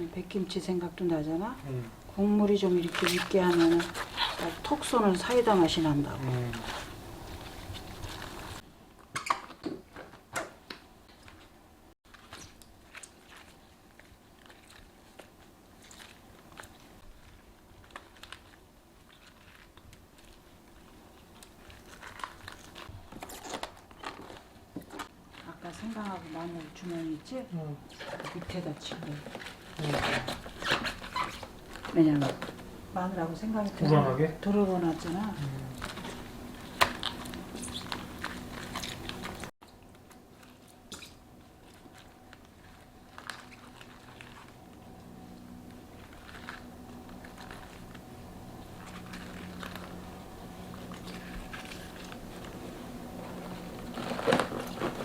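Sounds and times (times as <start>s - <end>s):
crackling handling noises: 0.0s - 55.0s
wet cabbage leaves crunching: 2.5s - 8.6s, 12.1s - 32.6s, 33.6s - 55.0s.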